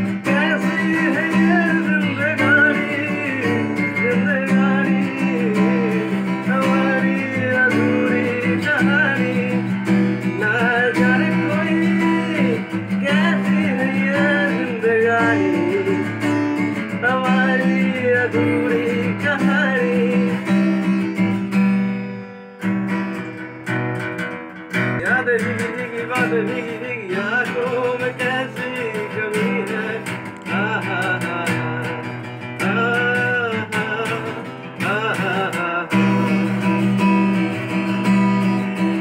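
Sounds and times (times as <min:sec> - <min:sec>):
man singing: 0:00.0 - 0:23.7, 0:24.7 - 0:39.0
acoustic guitar strumming: 0:00.0 - 0:39.0.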